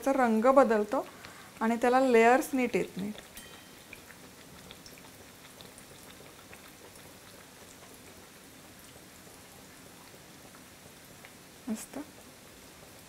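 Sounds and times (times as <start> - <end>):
pastries deep-frying in oil: 0.0 - 13.0.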